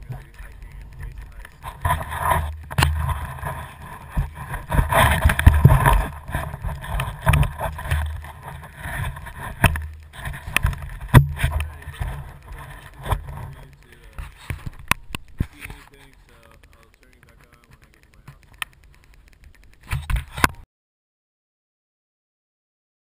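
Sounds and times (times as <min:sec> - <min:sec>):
sharp clicks: 0:00.0 - 0:20.6.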